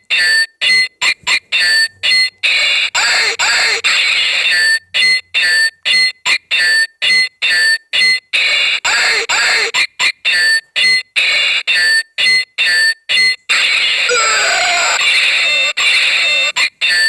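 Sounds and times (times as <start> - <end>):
toy electronic sound effects: 0.1 - 17.0.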